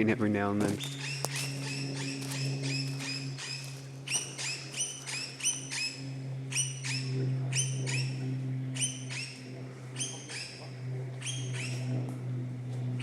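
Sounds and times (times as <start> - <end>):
distant aircraft drone: 0.0 - 13.0
bird calling: 0.7 - 12.1.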